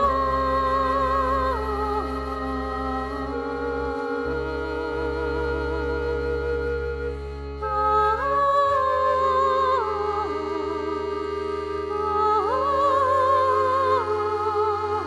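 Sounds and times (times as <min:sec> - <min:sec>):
held bass notes: 0:00.0 - 0:15.0
slow sustained melody: 0:00.0 - 0:15.0.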